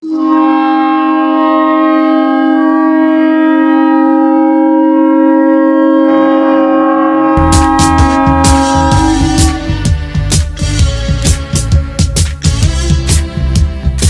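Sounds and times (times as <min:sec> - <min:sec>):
goal horn blast: 0:00.0 - 0:13.8.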